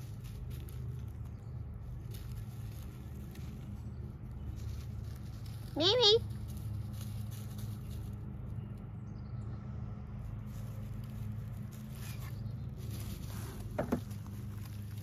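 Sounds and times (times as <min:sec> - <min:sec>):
footsteps rustling through ground cover: 0:00.0 - 0:09.0, 0:10.2 - 0:15.0.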